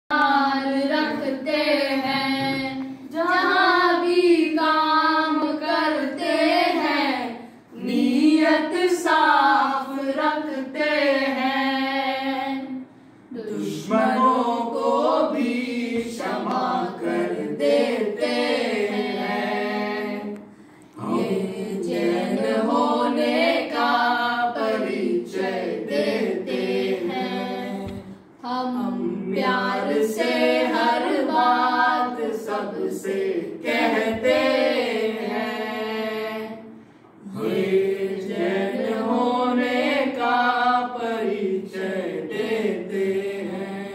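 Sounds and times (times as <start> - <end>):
group singing unaccompanied: 0.1 - 43.9.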